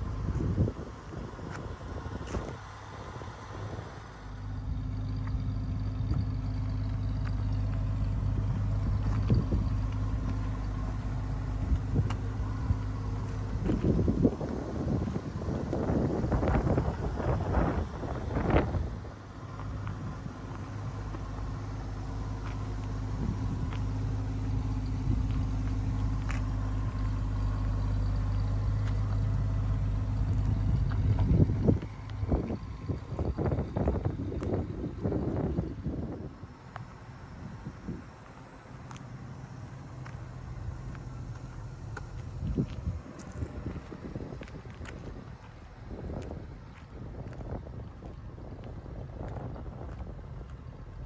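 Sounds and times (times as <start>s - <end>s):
wind buffeting microphone: 0.0s - 36.6s, 42.0s - 51.0s
car engine running: 0.0s - 51.0s.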